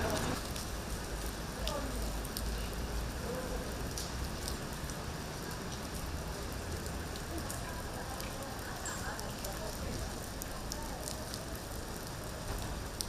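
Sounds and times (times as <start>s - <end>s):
rain falling: 0.0s - 13.0s
raindrops ticking: 0.0s - 13.0s.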